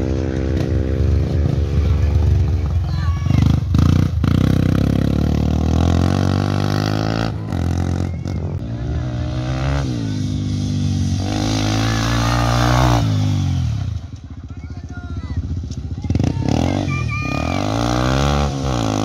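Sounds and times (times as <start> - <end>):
dirt bike engines accelerating: 0.0 - 19.0.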